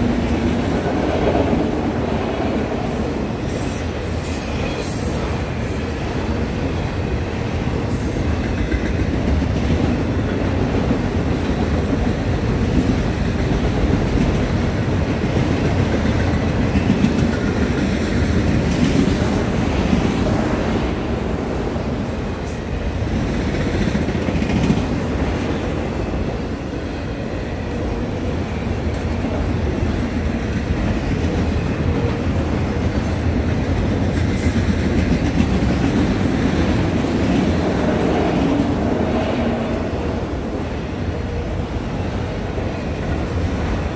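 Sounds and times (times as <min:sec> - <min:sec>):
freight train wheels rumbling on rails: 0:00.0 - 0:43.9.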